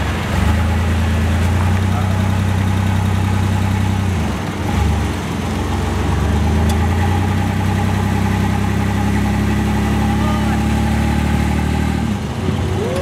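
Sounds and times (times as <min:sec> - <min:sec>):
pickup engine running low: 0:00.0 - 0:13.0.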